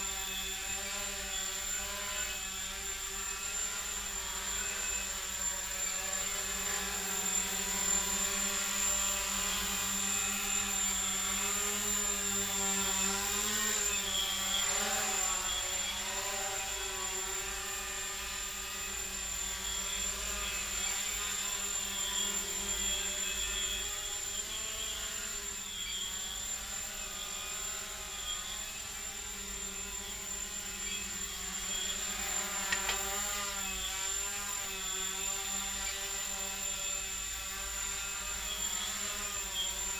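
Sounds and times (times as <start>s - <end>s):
drone motors buzzing: 0.0s - 39.9s.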